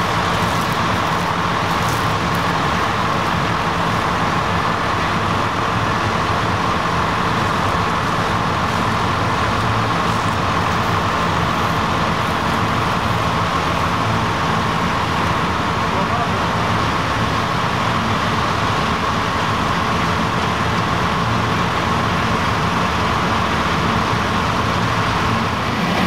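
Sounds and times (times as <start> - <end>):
combine harvesters threshing: 0.0 - 26.0.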